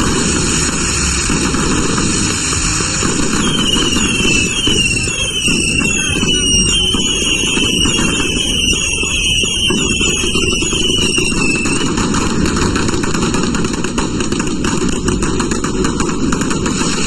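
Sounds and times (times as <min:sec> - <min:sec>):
whistling fireworks: 0:00.0 - 0:17.0.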